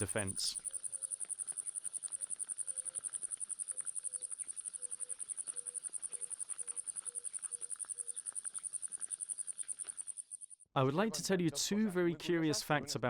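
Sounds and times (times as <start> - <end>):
insect trilling: 0.0 - 10.6.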